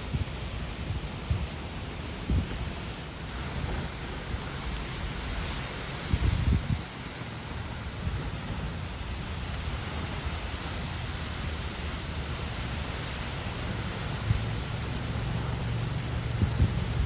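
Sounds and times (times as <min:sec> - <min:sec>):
heavy rain hiss: 0:00.0 - 0:17.0
low thunder rumble: 0:03.2 - 0:17.0.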